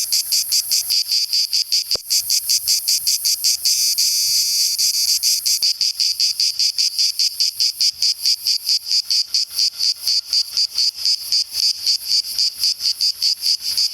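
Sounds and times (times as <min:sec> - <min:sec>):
cicadas pulsing shrilly: 0:00.0 - 0:13.9.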